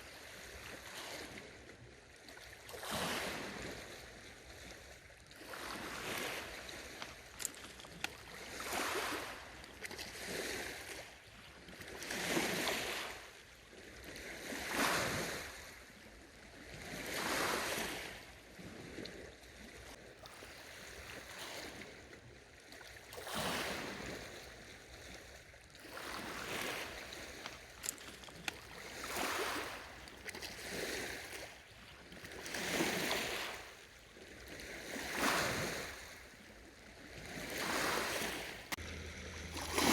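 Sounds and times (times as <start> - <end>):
small waves splashing: 0.0 - 39.9.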